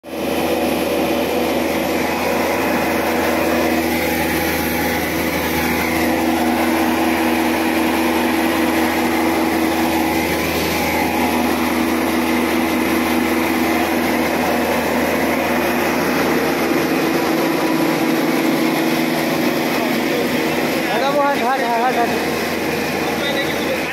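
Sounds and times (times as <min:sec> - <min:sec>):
recycling extruder machine hum: 0:00.0 - 0:23.9.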